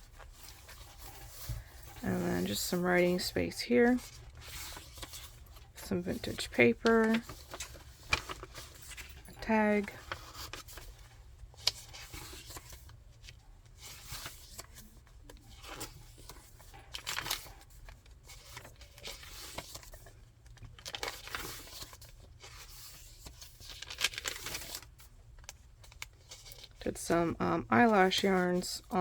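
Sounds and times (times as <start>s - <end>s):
paper pages rustling: 0.0s - 26.8s.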